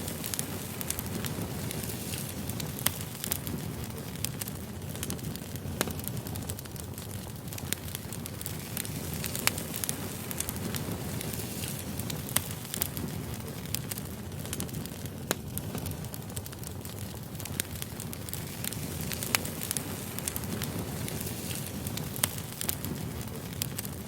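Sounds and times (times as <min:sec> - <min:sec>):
campfire flames rushing: 0:00.0 - 0:24.0
fire crackling and popping: 0:00.0 - 0:24.0.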